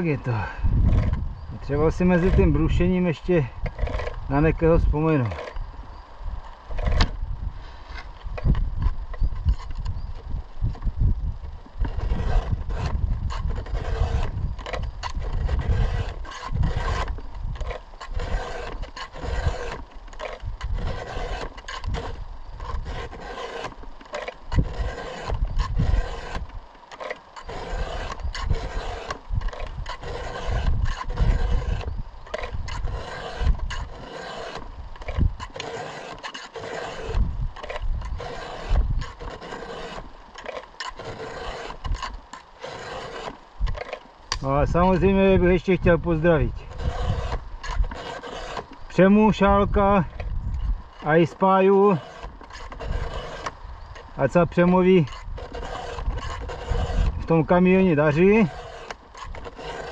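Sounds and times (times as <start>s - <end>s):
chainsaw chain being sharpened: 0.0s - 5.6s, 11.9s - 45.1s, 46.1s - 59.9s.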